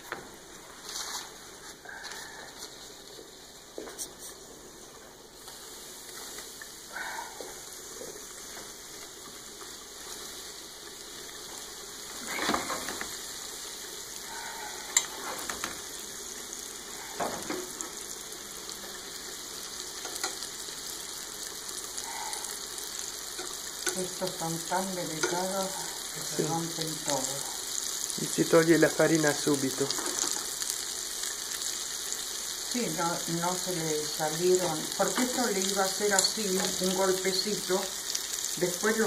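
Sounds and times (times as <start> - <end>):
squid deep-frying in oil: 4.4 - 39.0.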